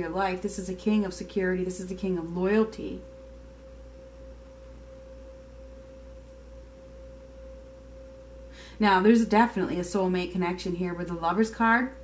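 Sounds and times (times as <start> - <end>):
faint low hum: 0.0 - 12.0
steady pure tone: 0.0 - 12.0.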